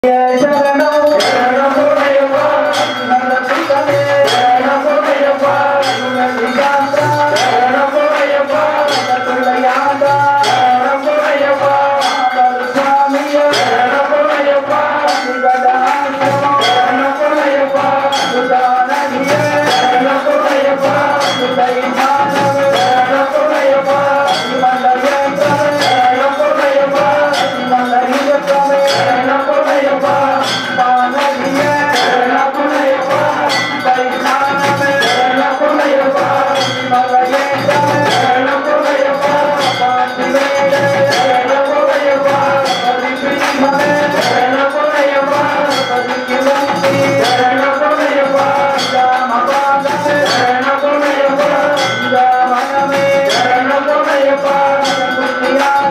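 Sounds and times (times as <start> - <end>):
devotional temple music melody: 0.0 - 55.9
metallic percussion strikes: 0.0 - 55.9.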